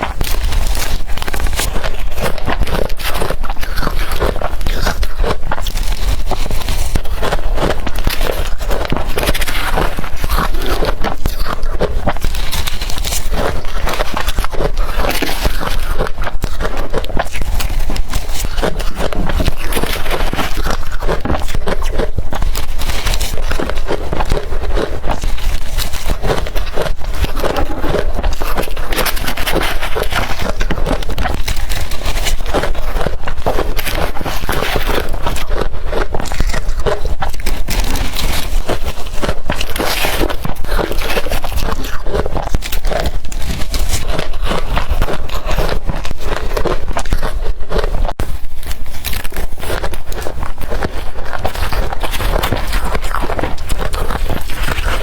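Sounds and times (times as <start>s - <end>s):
chewing crushed ice: 0.0s - 55.0s.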